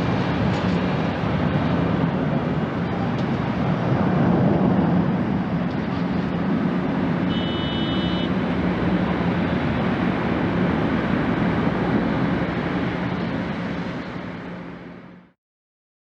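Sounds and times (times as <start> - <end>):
jet engines rumbling: 0.0 - 15.3.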